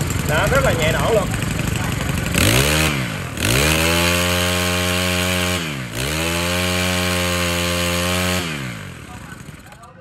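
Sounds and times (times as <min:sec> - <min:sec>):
brush cutter engine revving: 0:00.0 - 0:10.0.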